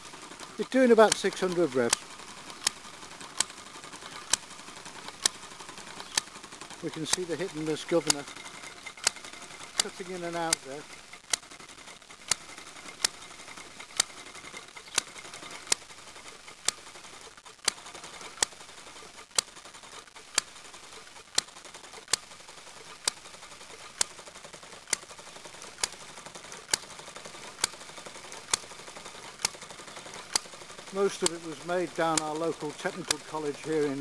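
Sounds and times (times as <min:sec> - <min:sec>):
engine mechanical ticking: 0:00.0 - 0:34.0.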